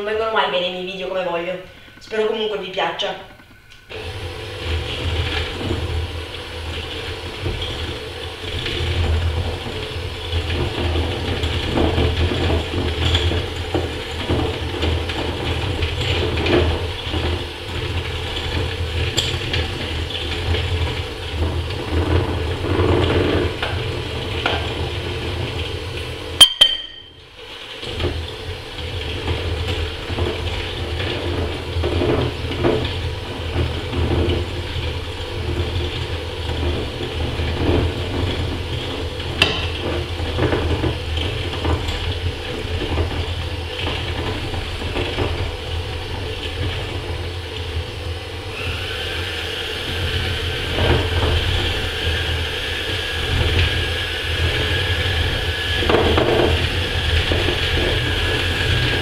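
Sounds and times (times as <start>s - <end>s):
electric hand mixer whisking: 3.9s - 26.4s, 27.2s - 59.0s.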